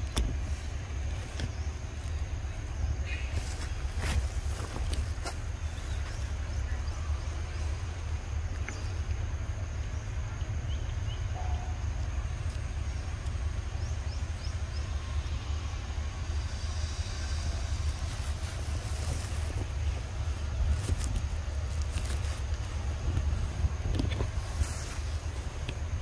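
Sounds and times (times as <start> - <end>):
high hiss: 0.0 - 26.0
low rumble: 0.0 - 26.0.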